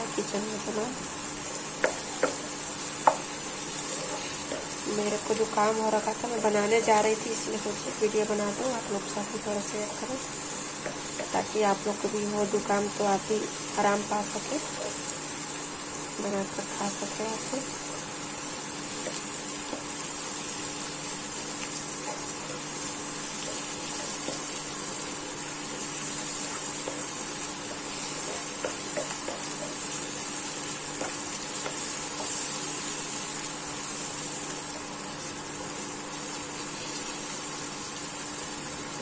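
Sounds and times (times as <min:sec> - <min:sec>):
spices sizzling in a pan: 0:00.0 - 0:39.0.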